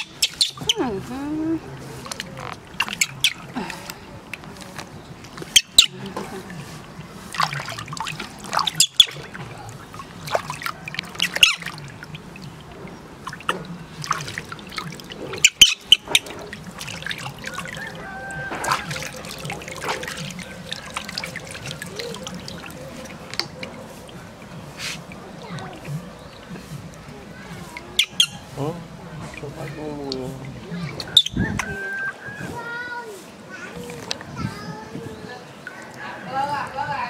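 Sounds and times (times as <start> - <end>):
water splashing in plastic tub: 0.0 - 37.0.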